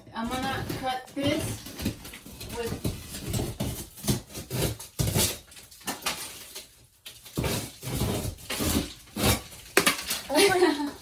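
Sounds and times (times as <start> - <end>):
tape and paper scraping and tearing: 0.3 - 11.0.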